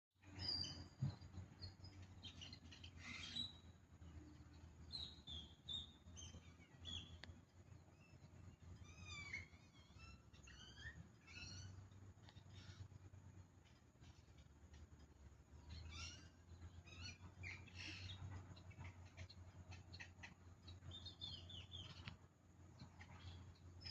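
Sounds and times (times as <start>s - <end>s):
birds chirping: 0.2s - 23.9s
faint low hum: 0.2s - 23.9s.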